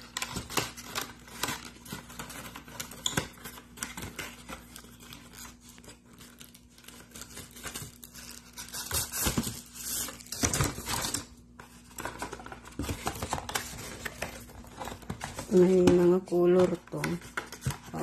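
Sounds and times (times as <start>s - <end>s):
cardboard rustling and crinkling: 0.0s - 18.0s.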